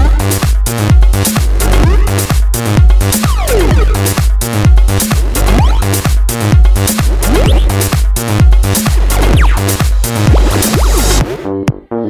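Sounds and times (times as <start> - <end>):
electronic dance music: 0.0 - 11.9
heavy kick drum beat: 0.0 - 11.9.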